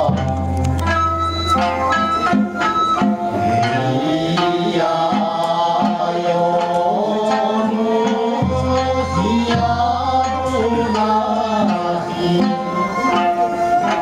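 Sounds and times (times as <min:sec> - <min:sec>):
plucked lute: 0:00.0 - 0:14.0
slow sung melody: 0:02.3 - 0:14.0.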